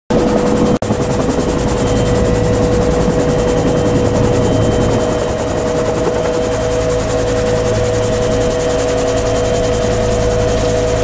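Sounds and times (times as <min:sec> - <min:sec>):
helicopter turbine and rotor: 0:00.1 - 0:11.0.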